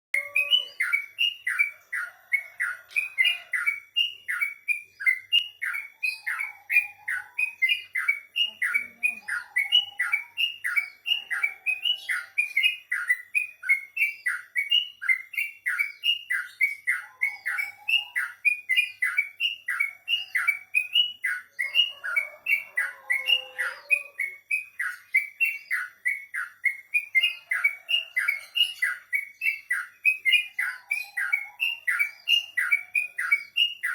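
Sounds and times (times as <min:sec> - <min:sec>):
bird singing rapid notes: 0:00.1 - 0:33.9.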